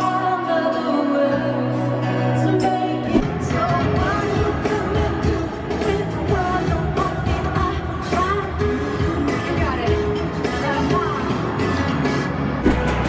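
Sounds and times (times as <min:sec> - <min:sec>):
woman singing: 0:00.0 - 0:11.7.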